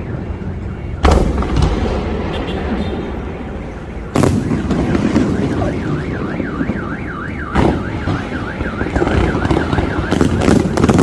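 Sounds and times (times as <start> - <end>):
car alarm wailing: 0.0 - 11.0
fireworks bangs: 0.9 - 11.0.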